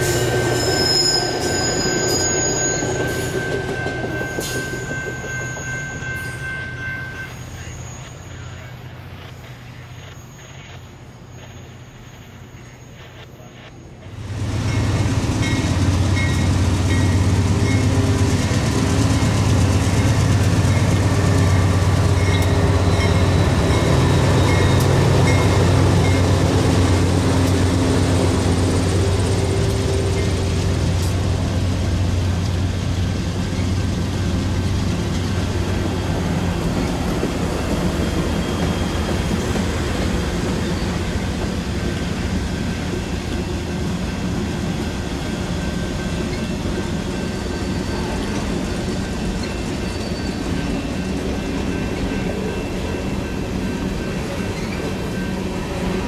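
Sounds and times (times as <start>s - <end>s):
train engine drone: 0.0s - 56.0s
wheels on rail: 0.0s - 56.0s.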